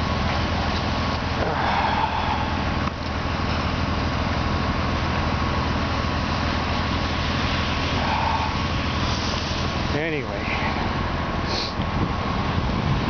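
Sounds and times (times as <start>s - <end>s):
faint steady whine: 0.0s - 13.0s
heavy vehicle engine idling: 0.0s - 13.0s.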